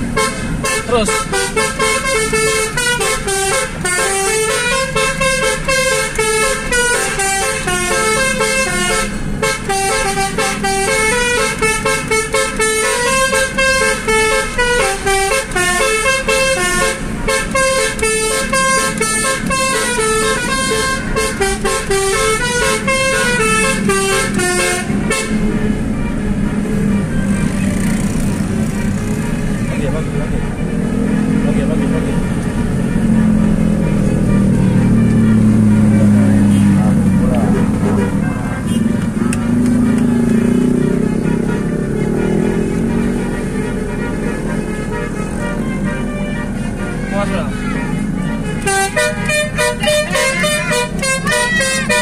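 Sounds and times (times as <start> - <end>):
musical air horn melody: 0.0 - 52.0.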